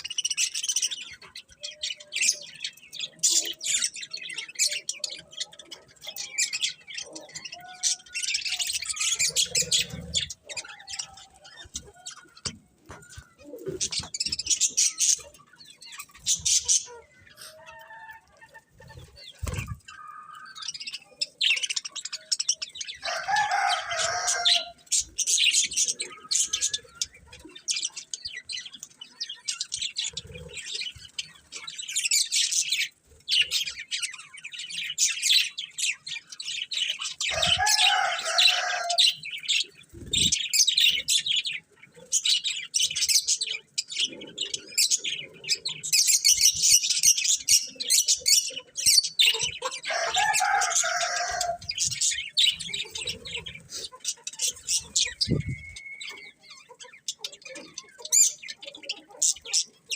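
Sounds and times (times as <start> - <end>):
budgerigars chattering: 0.0 - 17.5, 18.8 - 59.9.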